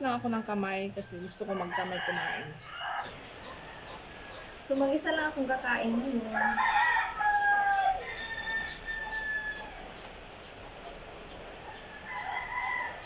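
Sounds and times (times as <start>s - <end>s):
roosters crowing: 0.0s - 13.0s.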